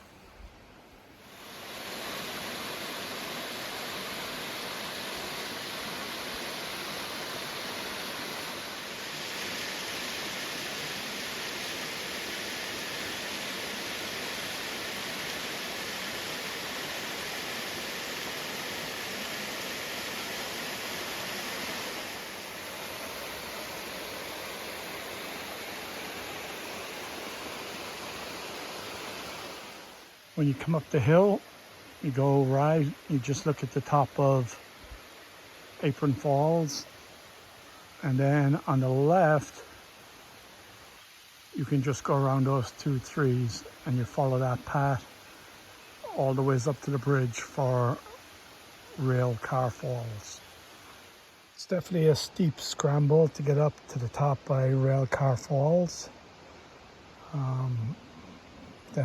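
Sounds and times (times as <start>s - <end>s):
waterfall rushing water: 1.2s - 59.0s.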